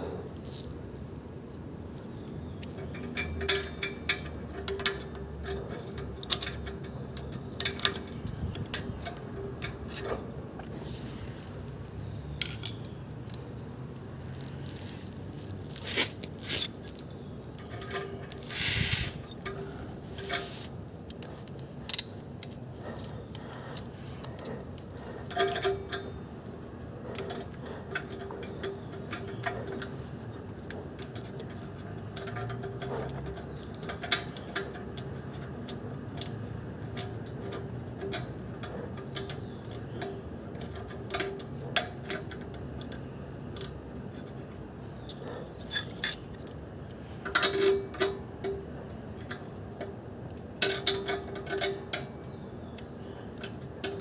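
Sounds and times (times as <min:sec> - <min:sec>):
metal tools clinking: 0:02.2 - 0:10.8, 0:12.0 - 0:13.4, 0:15.4 - 0:26.2, 0:27.0 - 0:54.0.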